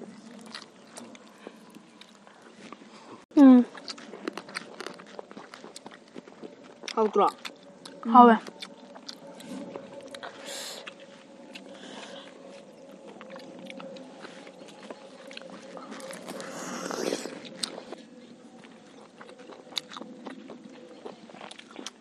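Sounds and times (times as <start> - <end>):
faint steady hum: 0.0 - 22.0
chewing and lip-smacking: 0.1 - 22.0.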